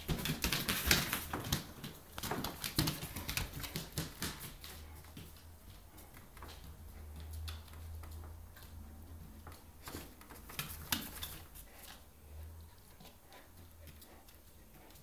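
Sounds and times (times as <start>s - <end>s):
dogs scuffling in play: 0.0s - 15.0s.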